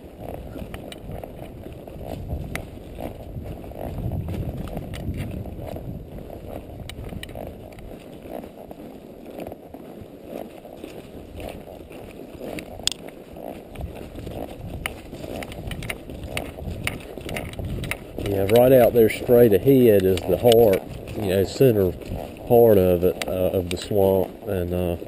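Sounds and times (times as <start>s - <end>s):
horse hooves walking: 0.0s - 25.0s.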